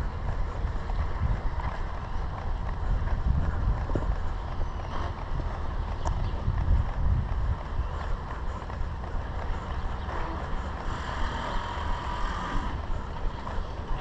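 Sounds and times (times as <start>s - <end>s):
vehicle noise: 0.0s - 14.0s
wind rumble on microphone: 0.0s - 14.0s.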